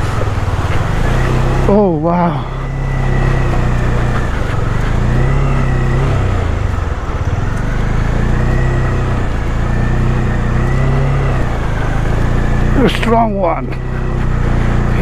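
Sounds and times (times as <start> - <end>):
constant rushing noise: 0.0 - 15.0
motorcycle engine running: 0.0 - 15.0.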